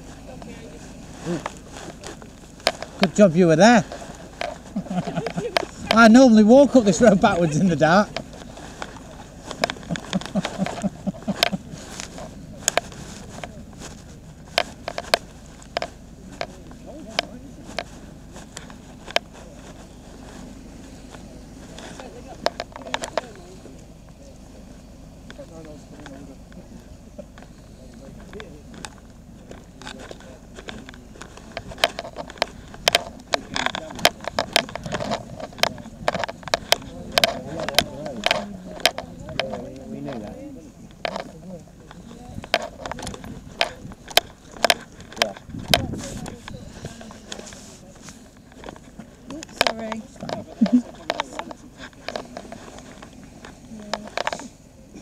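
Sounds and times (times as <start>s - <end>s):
footsteps on tarmac: 0.0s - 55.0s
low steady background noise: 0.0s - 55.0s
irregular sharp clicks and knocks: 1.4s - 24.2s, 27.2s - 55.0s.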